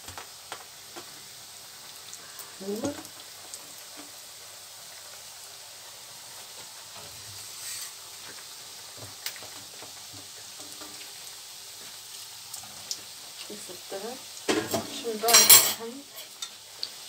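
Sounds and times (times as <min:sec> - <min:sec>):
dough sizzling in hot oil: 0:00.0 - 0:17.0.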